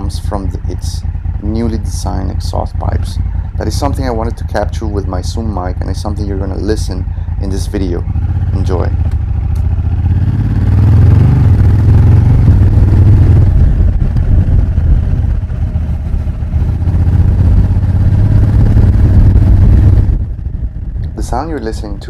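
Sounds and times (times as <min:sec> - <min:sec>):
motorcycle engine exhaust: 0:00.0 - 0:22.0.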